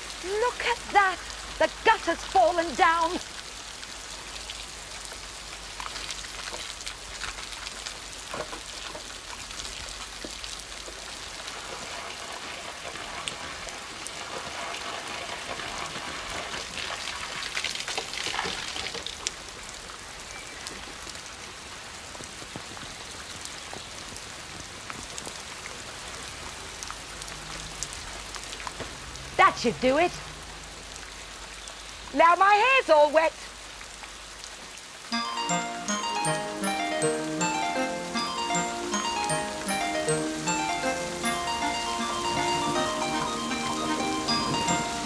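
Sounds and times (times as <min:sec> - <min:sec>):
steady rain: 0:00.0 - 0:45.0.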